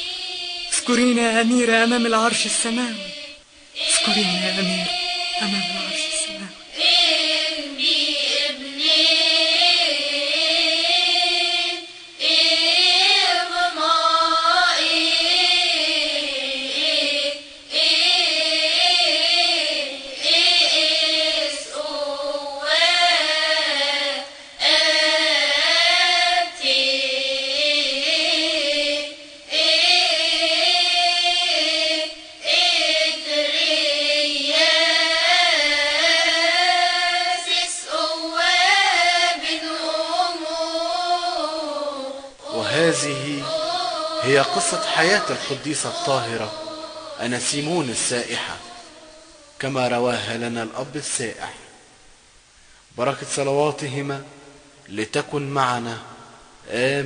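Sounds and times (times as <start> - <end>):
hymn singing: 0.0 - 57.0.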